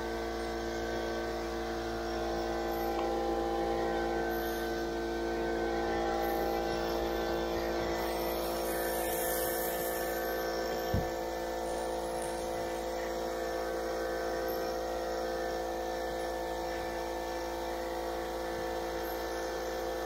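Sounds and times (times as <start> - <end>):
steady motor-like hum: 0.0 - 20.0.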